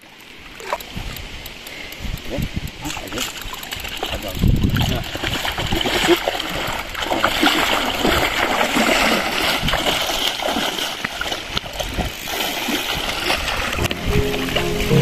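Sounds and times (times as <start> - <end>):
water splashing and sloshing: 2.8 - 15.0.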